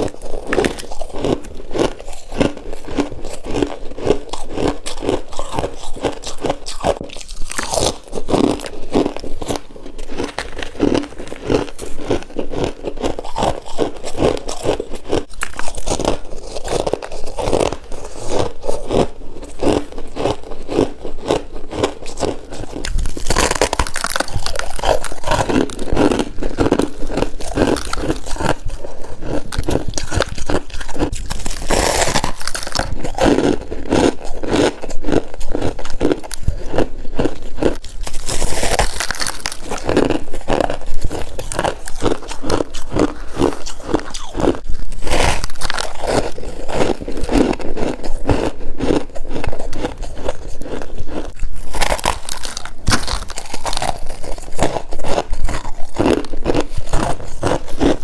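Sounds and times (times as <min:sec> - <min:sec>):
crunching and chewing frost: 0:00.0 - 0:58.0.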